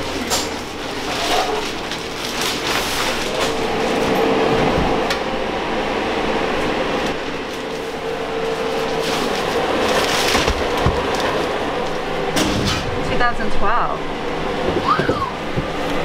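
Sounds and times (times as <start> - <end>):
junk and plastic bags rustling: 0.0 - 16.0
mechanical whir with hum: 0.0 - 16.0.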